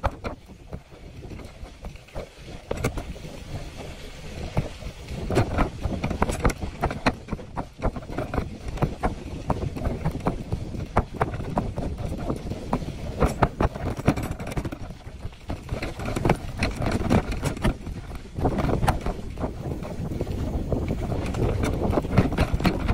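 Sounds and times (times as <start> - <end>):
bicycle rumbling over dirt road: 0.0 - 22.9
basket rattling and knocking: 4.5 - 22.9.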